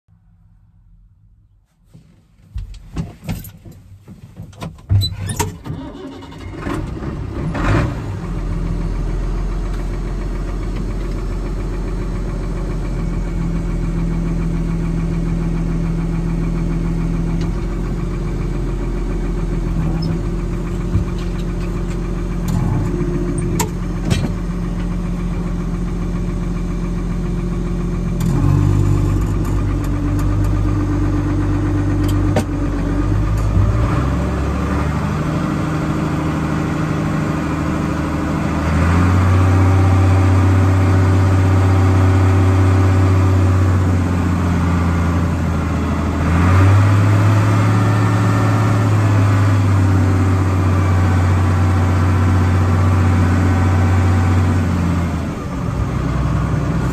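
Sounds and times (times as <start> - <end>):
diesel tractor engine cranking and idling: 1.9 - 56.9.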